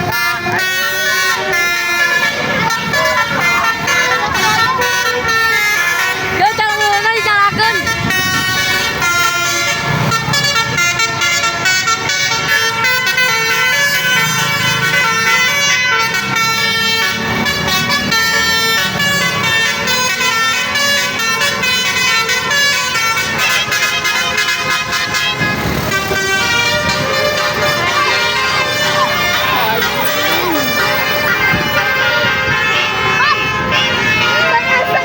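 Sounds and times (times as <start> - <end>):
musical air horn playing a tune: 0.0 - 35.0.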